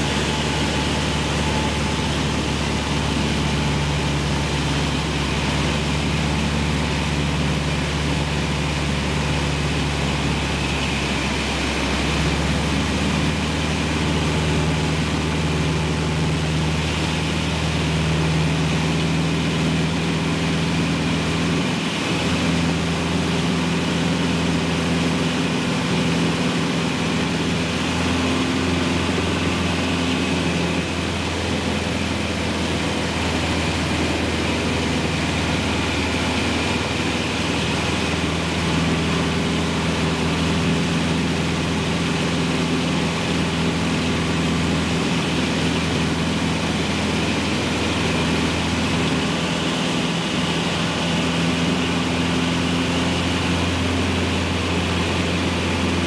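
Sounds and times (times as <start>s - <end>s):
aircraft engine drone in cabin: 0.0s - 56.0s.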